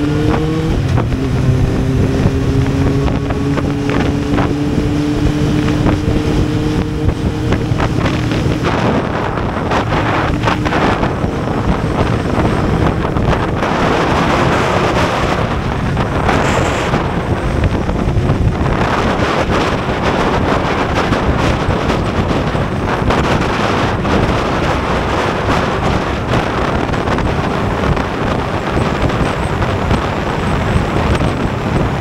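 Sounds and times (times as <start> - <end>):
wind rushing on microphone: 0.0 - 32.0.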